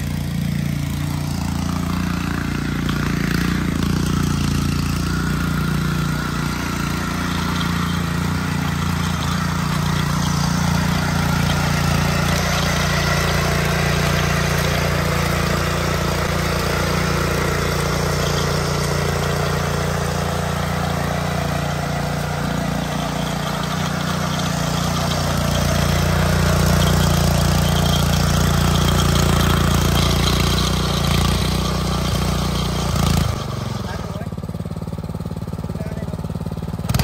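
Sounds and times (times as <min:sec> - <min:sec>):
tiller engine running under load: 0:00.0 - 0:37.0.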